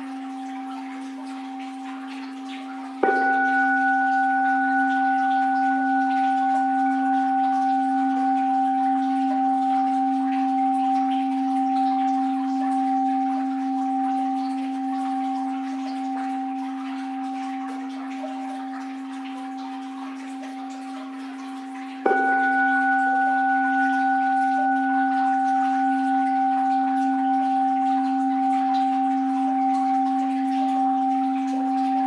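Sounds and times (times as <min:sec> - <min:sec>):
bowl bell ringing: 0:00.0 - 0:32.0.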